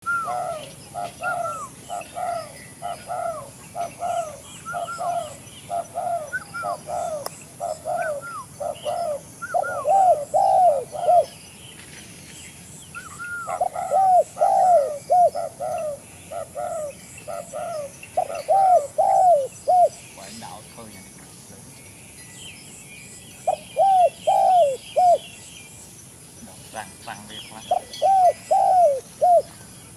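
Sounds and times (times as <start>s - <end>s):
doves cooing: 0.0s - 11.4s, 13.0s - 20.6s, 23.4s - 25.4s, 26.4s - 29.9s.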